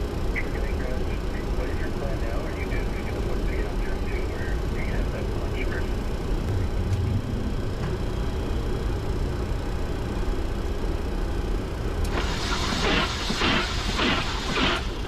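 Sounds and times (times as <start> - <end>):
jet engines idling rumble: 0.0 - 15.0.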